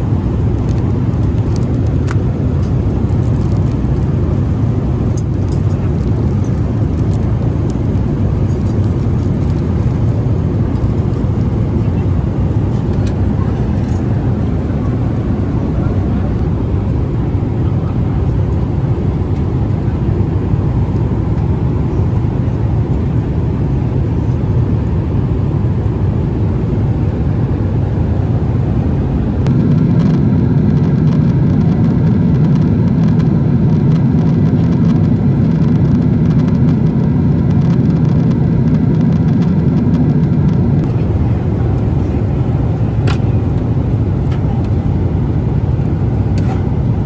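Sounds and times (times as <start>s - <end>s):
airliner cabin rumble: 0.0s - 47.0s.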